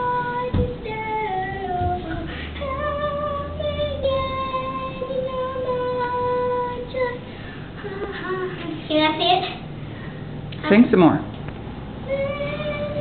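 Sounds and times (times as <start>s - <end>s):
girl singing unaccompanied: 0.0s - 9.7s, 11.9s - 13.0s.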